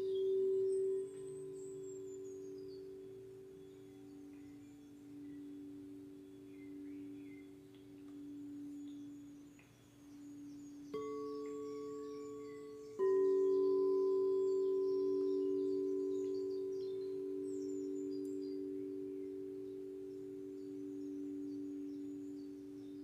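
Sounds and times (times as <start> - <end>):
singing bowl struck: 0.0 - 9.6, 10.2 - 23.0
singing bowls ringing: 0.0 - 23.0.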